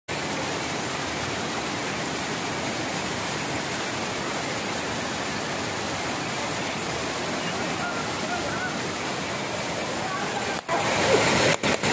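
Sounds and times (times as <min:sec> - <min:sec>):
water rushing and churning: 0:00.1 - 0:11.9.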